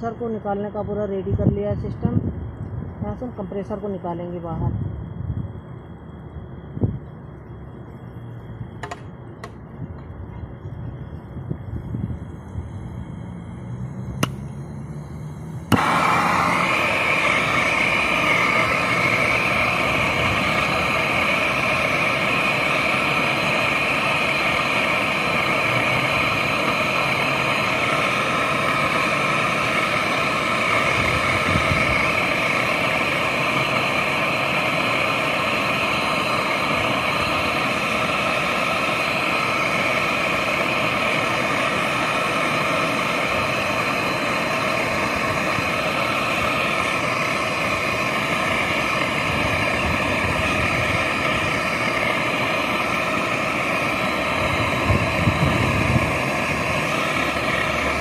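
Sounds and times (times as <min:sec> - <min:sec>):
gas torch hissing: 0:00.0 - 0:58.0.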